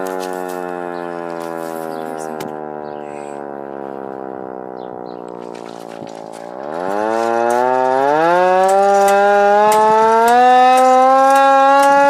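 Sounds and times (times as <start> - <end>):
hand-cranked siren wailing: 0.0 - 12.0.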